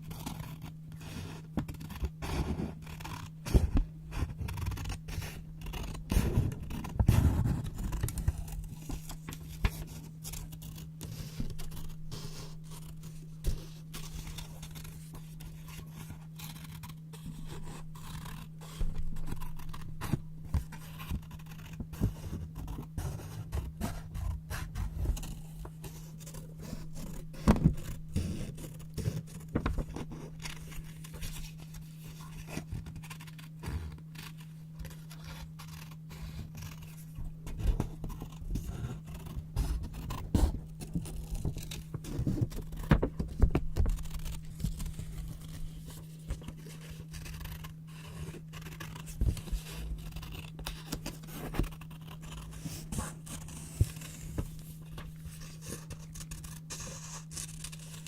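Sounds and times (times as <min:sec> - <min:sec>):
scissors snipping paper: 0:01.3 - 0:58.0.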